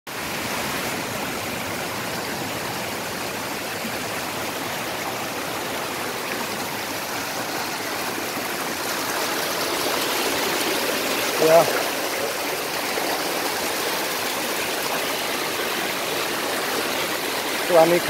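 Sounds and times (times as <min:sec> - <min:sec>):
stream rushing over stones: 0:00.1 - 0:18.0.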